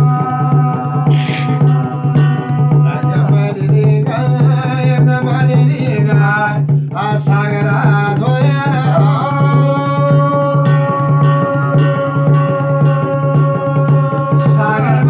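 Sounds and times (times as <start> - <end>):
hand drum strokes: 0.0 - 15.0
man singing a devotional chant: 0.0 - 15.0.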